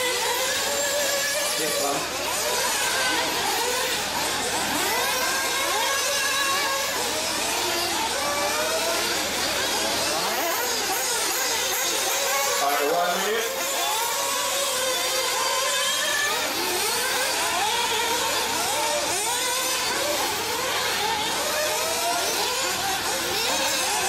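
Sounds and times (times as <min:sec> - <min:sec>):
model buggy engines revving: 0:00.0 - 0:24.0.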